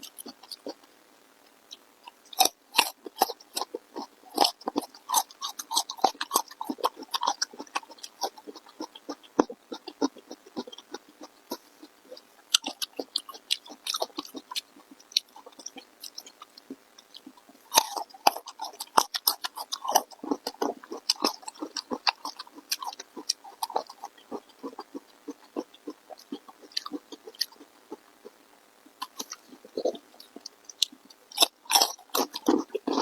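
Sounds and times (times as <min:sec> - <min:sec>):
person chewing: 0:00.0 - 0:00.9, 0:01.7 - 0:33.0.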